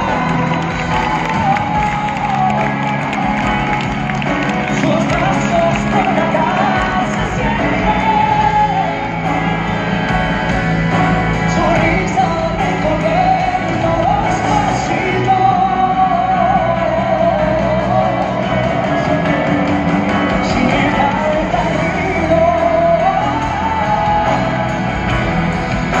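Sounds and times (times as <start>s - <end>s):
person singing: 0.0s - 10.2s, 10.8s - 26.0s
live rock band playing: 0.0s - 26.0s.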